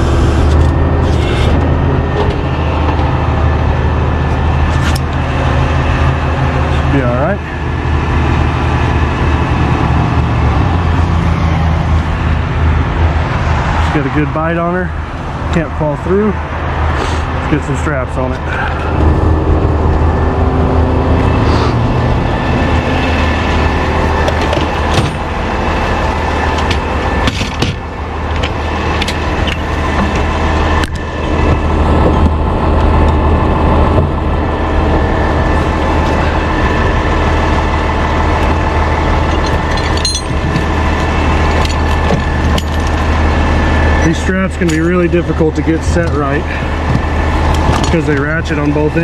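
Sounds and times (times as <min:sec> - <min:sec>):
truck engine idling: 0:00.0 - 0:49.0.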